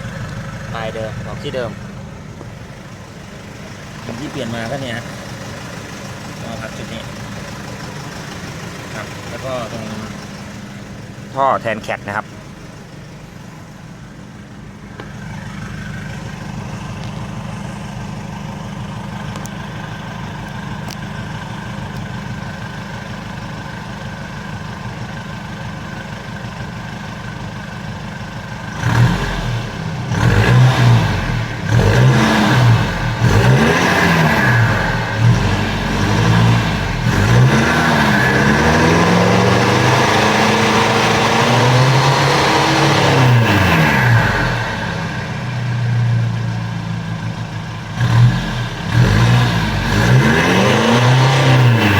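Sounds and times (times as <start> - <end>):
pickup engine idling and revving: 0.0 - 51.9.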